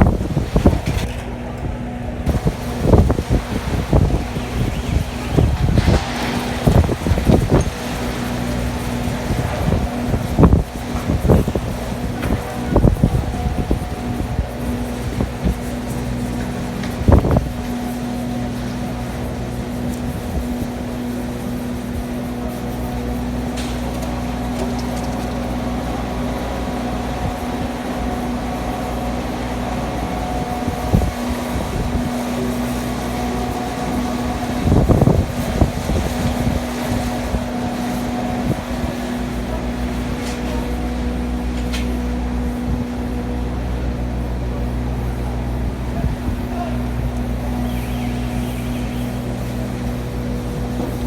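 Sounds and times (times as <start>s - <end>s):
steady mechanical hum: 0.0s - 51.0s
wind rumbling against microphone: 0.0s - 51.0s.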